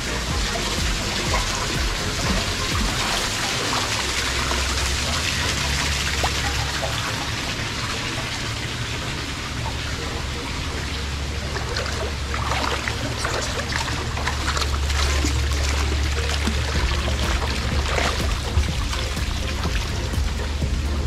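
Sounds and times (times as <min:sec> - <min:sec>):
steady low rumble: 0:00.0 - 0:21.0
water splashing into pools: 0:00.0 - 0:21.0.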